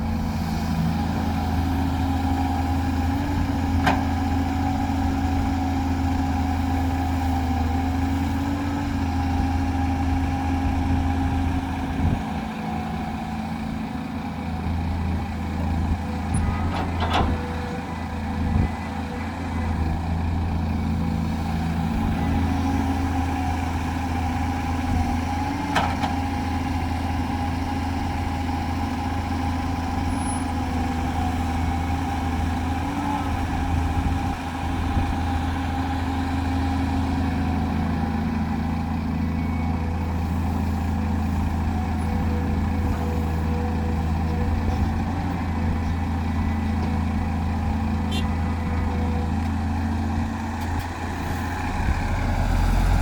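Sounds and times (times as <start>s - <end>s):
diesel machinery droning: 0.0s - 53.0s.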